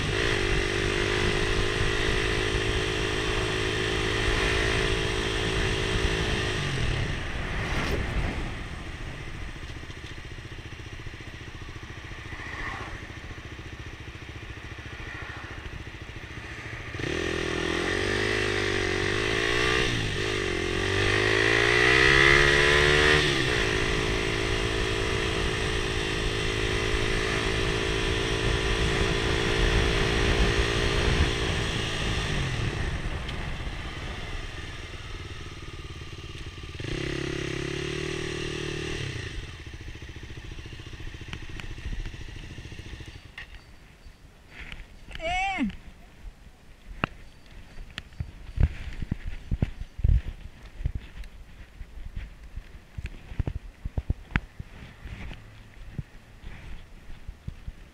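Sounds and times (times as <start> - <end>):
motorcycle engine revving: 0.0 - 43.7, 47.9 - 57.8.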